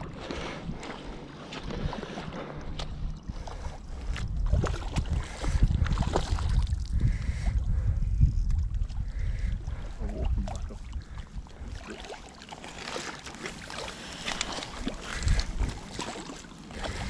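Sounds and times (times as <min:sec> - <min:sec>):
wind rumbling on microphone: 0:00.0 - 0:12.1, 0:14.2 - 0:17.0
moving sea water: 0:00.0 - 0:17.0.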